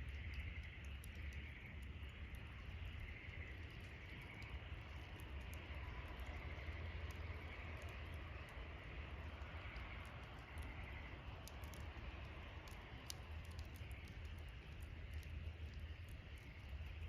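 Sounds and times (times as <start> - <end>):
campfire crackles and pops: 0.0 - 17.0
low fire rumble: 0.0 - 17.0.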